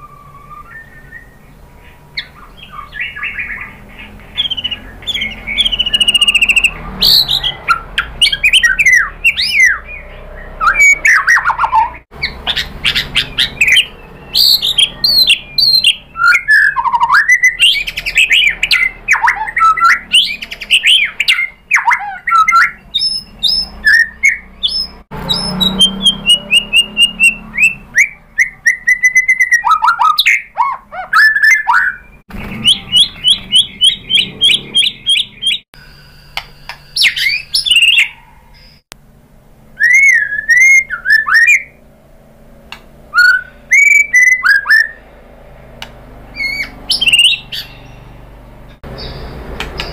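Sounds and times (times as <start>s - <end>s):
bird singing varied song: 0.0s - 38.9s, 39.8s - 41.8s, 42.7s - 49.9s.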